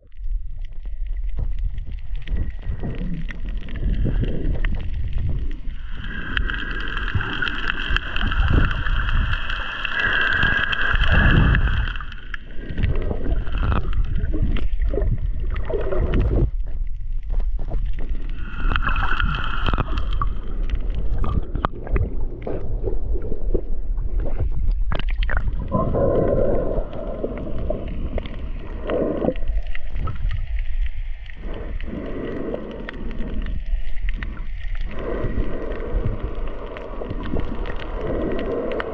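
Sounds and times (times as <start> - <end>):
water gurgling underwater: 0.0 - 38.9.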